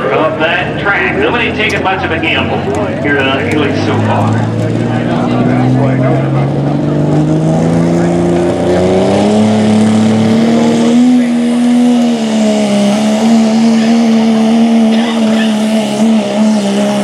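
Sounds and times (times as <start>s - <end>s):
diesel engine at full throttle: 0.0s - 17.0s.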